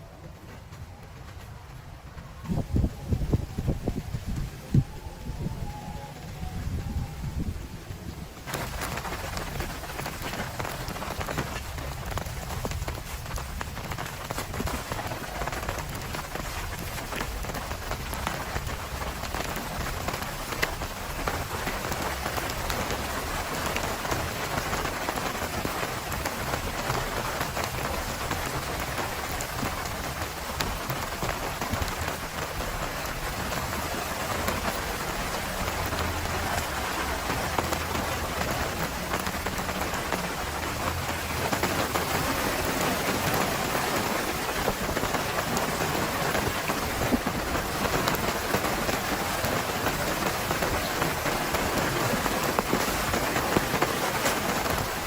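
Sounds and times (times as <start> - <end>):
heavy rain: 0.0 - 55.0
raindrops ticking on surface: 0.0 - 55.0.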